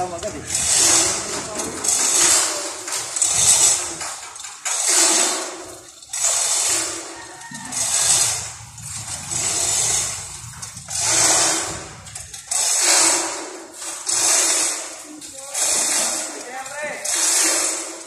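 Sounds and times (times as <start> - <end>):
lifting tackle rattling and hissing: 0.0 - 18.0.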